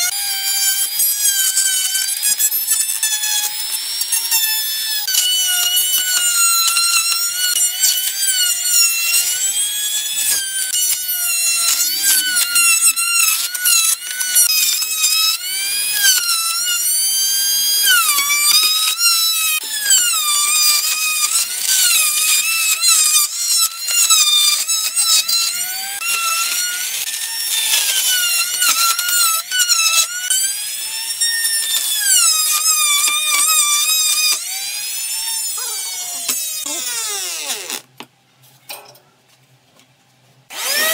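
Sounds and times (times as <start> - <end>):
trim router cutting wood: 0.0 - 37.8, 40.5 - 40.9.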